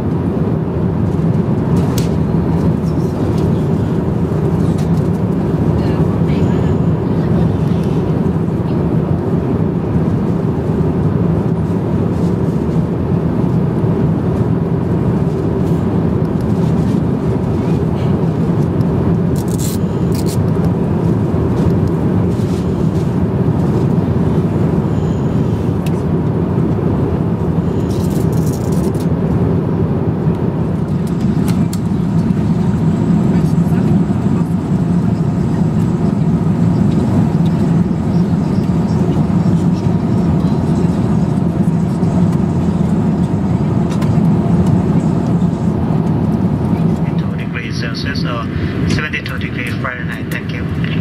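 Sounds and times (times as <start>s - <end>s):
airplane cabin engine rumble: 0.0s - 51.0s.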